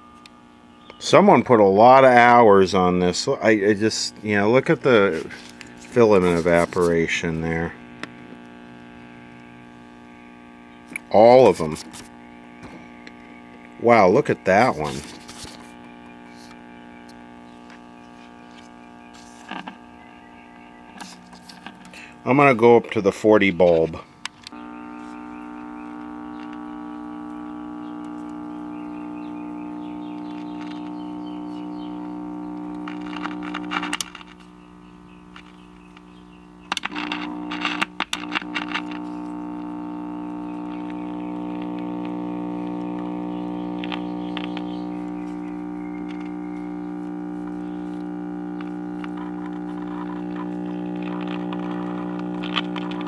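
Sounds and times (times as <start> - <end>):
buzzy mains hum from speaker: 0.0 - 53.0.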